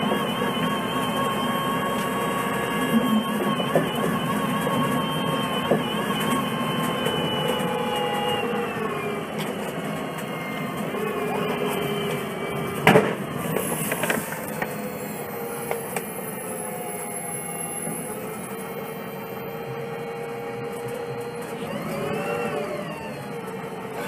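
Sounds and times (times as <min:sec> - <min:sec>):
bus engine idling with whine: 0:00.0 - 0:24.0.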